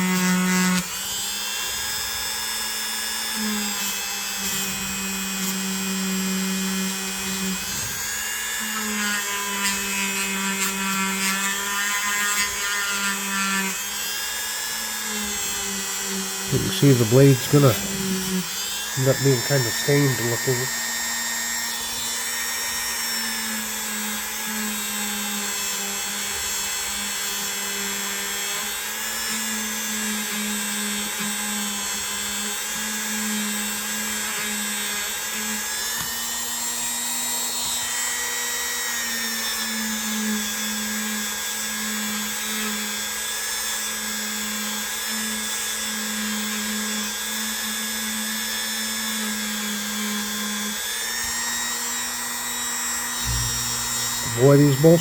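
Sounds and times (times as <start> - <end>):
power tool polishing metal: 0.0 - 55.0.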